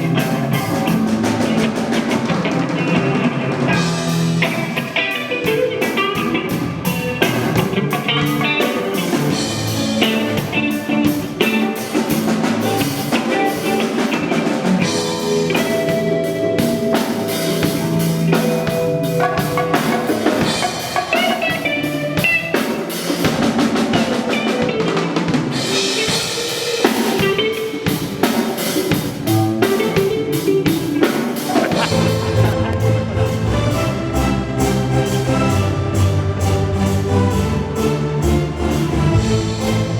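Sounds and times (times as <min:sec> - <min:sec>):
bass: 0:00.0 - 0:22.4, 0:29.0 - 0:30.5, 0:31.4 - 0:39.9
drum kit: 0:00.0 - 0:39.9
guitar: 0:00.0 - 0:39.9
keyboard: 0:00.0 - 0:39.9
percussion: 0:00.0 - 0:39.9.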